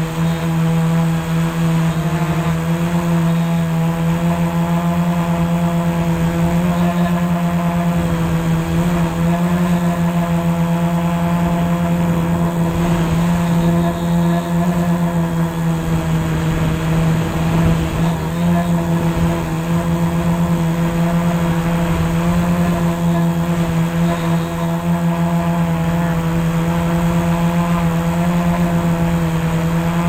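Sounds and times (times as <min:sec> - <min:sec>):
drone buzzing hum: 0:00.0 - 0:30.0.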